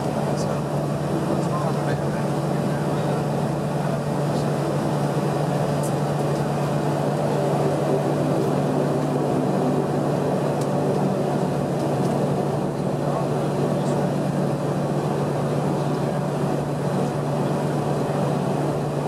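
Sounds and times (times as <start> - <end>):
constant low hum: 0.0 - 19.0
turboprop cabin drone: 0.0 - 19.0.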